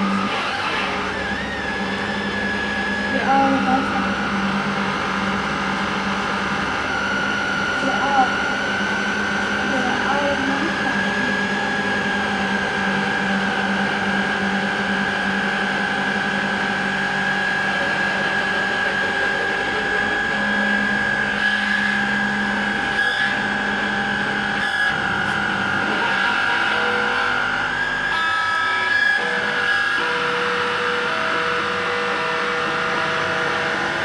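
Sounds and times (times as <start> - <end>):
high whining tone: 0.0 - 34.0
low noise drone: 0.0 - 34.0.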